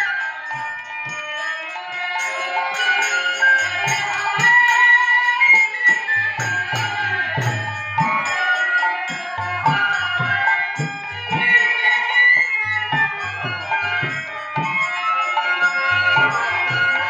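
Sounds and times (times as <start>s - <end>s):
small hand cymbals: 0.0s - 17.0s.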